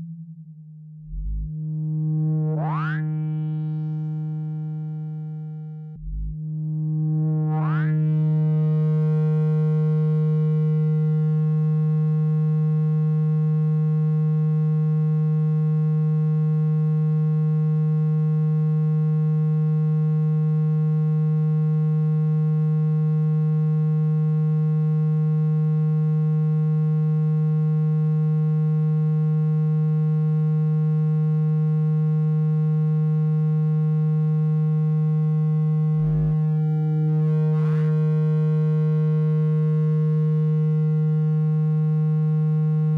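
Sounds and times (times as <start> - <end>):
low buzzy electronic tone: 0.0 - 28.4, 29.0 - 42.9.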